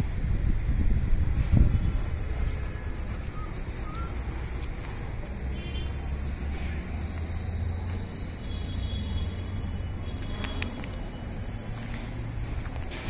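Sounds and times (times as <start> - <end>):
constant low rumble: 0.0 - 13.0
insects trilling: 0.0 - 13.0.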